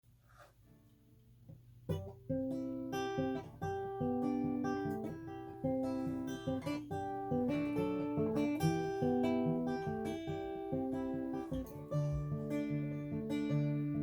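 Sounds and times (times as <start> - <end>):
acoustic guitar picking: 1.9 - 14.0.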